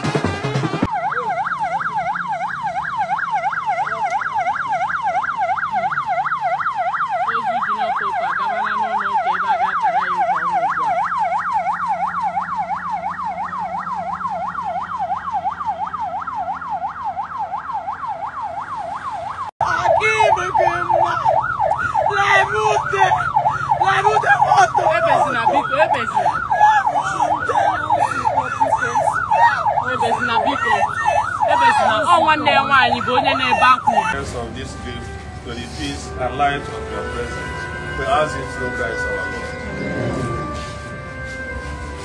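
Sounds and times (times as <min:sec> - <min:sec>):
electronic siren yelping: 0:00.0 - 0:34.9, 0:35.6 - 0:42.0
second siren pattern: 0:00.0 - 0:42.0.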